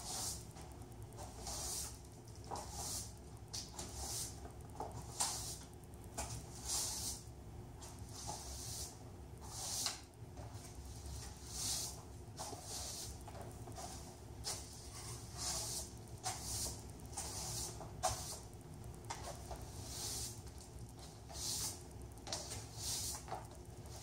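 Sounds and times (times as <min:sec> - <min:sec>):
broom sweeping hard floor: 0:00.0 - 0:24.0.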